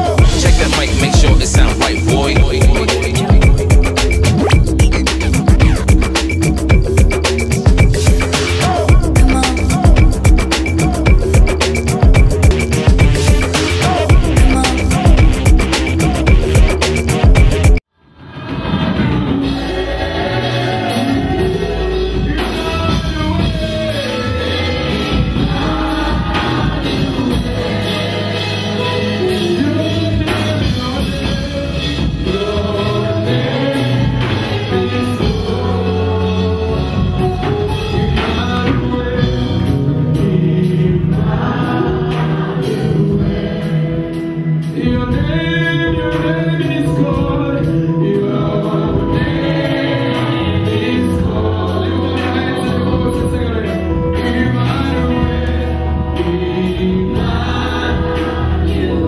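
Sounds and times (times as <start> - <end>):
man singing lead: 0.0 - 4.4, 8.0 - 17.7, 19.4 - 59.0
backing singers: 0.0 - 5.9, 8.0 - 59.0
band with steady beat: 0.0 - 17.8, 20.8 - 33.0, 33.7 - 59.0.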